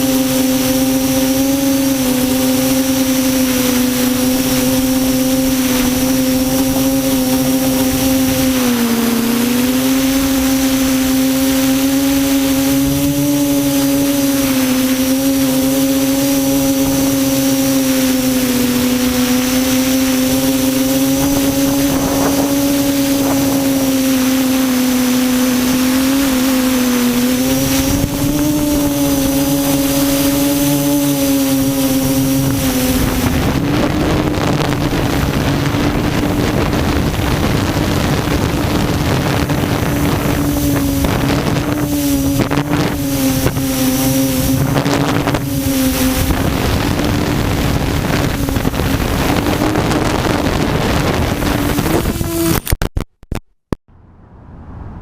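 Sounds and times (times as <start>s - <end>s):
quadcopter propellers buzzing: 0.0s - 52.8s.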